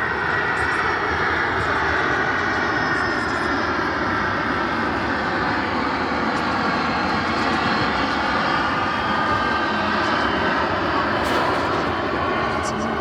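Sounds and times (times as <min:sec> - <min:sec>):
jet aircraft engine rushing: 0:00.0 - 0:13.0.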